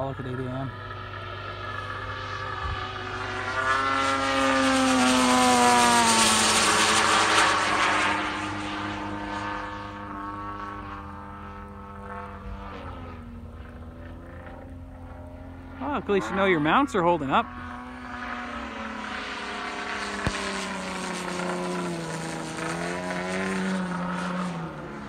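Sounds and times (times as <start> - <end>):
model plane engine buzz: 0.0 - 25.0.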